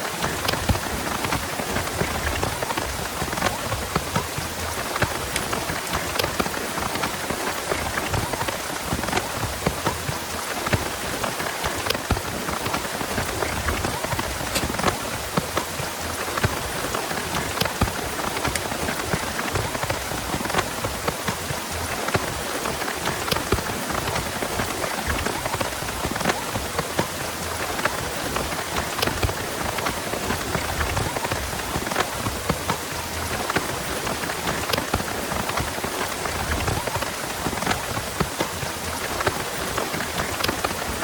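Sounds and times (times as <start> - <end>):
heavy rain: 0.0 - 41.0
raindrops hitting surfaces: 0.0 - 41.0.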